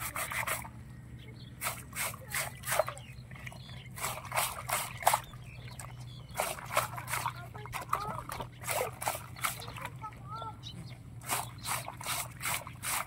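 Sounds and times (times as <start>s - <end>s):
water sloshing and splashing: 0.0s - 0.9s, 1.5s - 13.0s.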